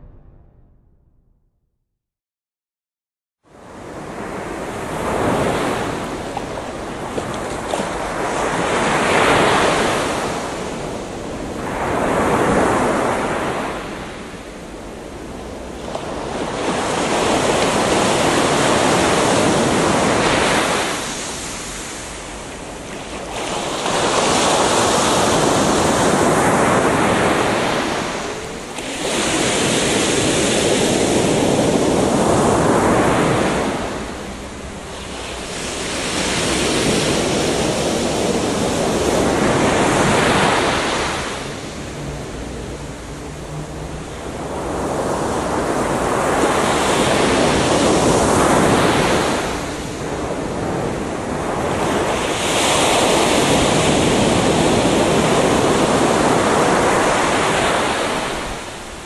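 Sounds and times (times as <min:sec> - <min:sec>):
waves washing onto beach: 0:03.5 - 0:59.0.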